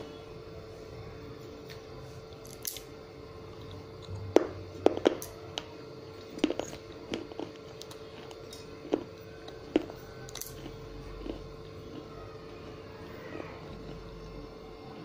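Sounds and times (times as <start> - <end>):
faint steady hum: 0.0 - 15.0
chewing crunchy clay pieces: 1.6 - 15.0.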